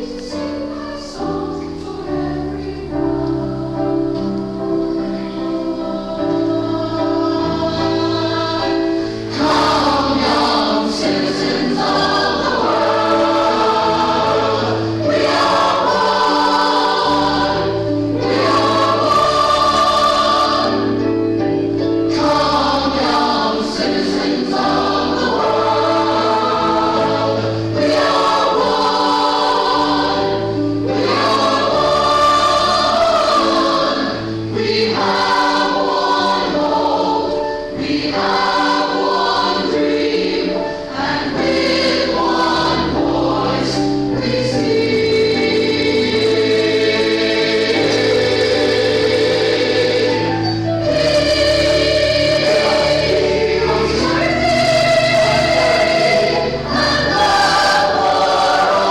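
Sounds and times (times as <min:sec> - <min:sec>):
choir singing sustained chords: 0:00.0 - 0:58.9.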